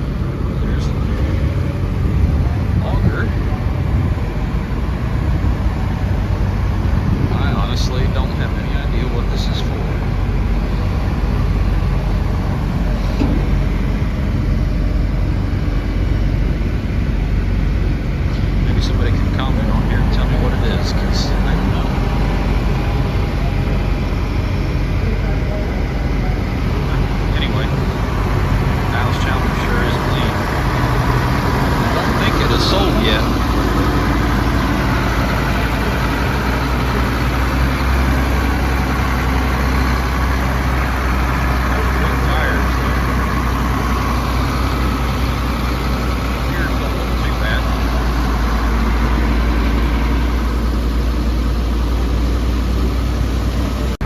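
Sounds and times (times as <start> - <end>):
diesel tractor engine rumbling: 0.0 - 54.0.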